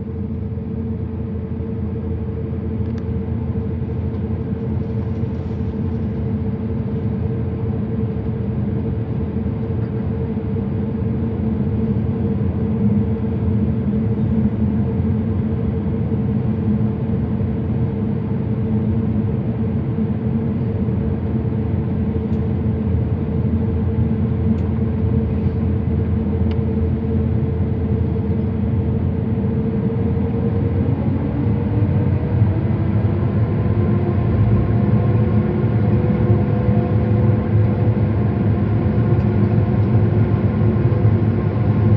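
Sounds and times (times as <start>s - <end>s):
jet engine rumble and hum: 0.0s - 41.9s
jet engines spooling up whine: 0.0s - 41.9s.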